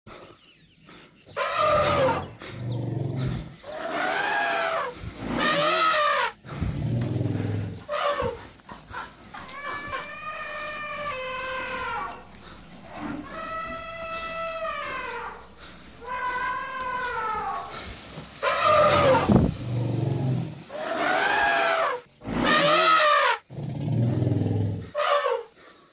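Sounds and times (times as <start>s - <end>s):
elephants trumpeting: 1.4s - 25.5s.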